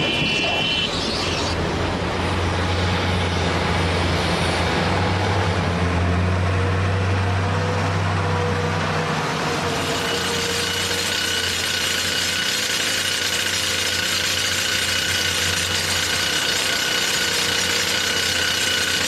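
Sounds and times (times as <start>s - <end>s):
large engine running: 1.4s - 19.0s.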